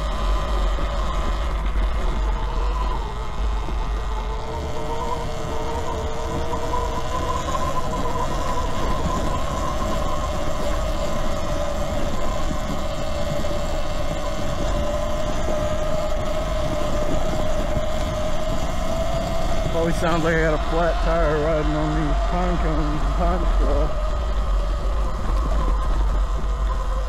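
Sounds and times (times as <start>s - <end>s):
electric motor whine: 0.0s - 27.0s
wind: 0.0s - 27.0s.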